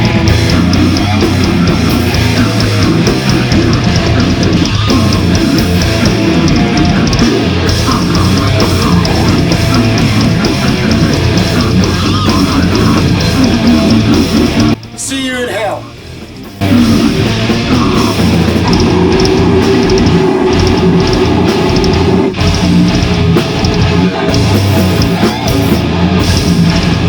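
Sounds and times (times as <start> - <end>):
death metal band playing: 0.0 - 27.0.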